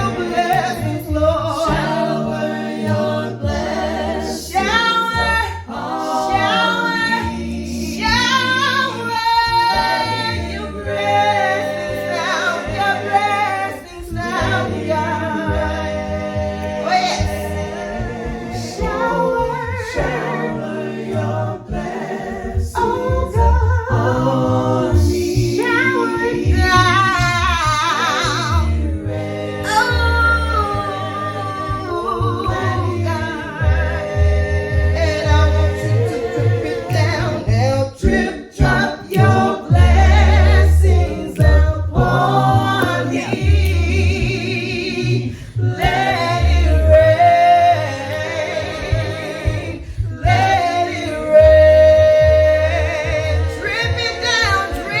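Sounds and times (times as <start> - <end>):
a cappella gospel choir singing: 0.0 - 55.0
vocal bass line: 0.0 - 55.0.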